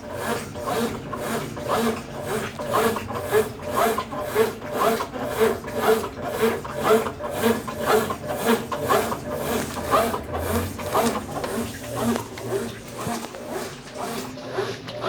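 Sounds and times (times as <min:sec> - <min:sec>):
washing machine agitating: 0:00.0 - 0:15.0.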